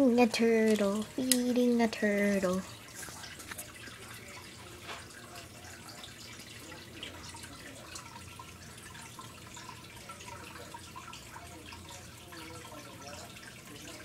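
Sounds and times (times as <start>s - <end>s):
low steady hum: 0.0s - 14.0s
water trickling and dripping: 0.0s - 14.0s.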